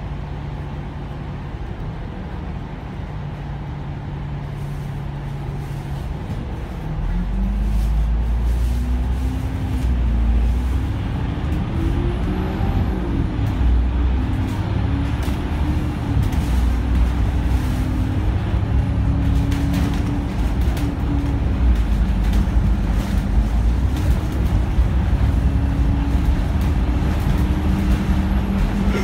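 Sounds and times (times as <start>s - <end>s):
bus engine idling and pulling away: 0.0s - 29.0s.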